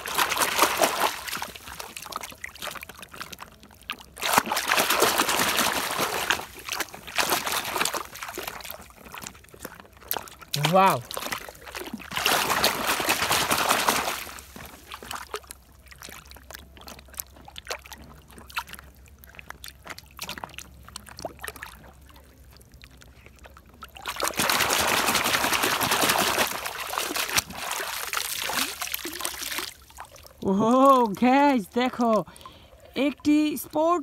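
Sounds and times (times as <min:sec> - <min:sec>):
water dribbling: 0:00.0 - 0:34.0
water splashing and sloshing: 0:00.0 - 0:34.0.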